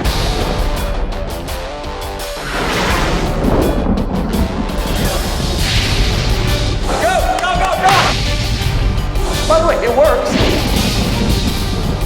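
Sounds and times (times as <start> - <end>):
music with heavy bass: 0.0 - 2.4, 3.2 - 12.0.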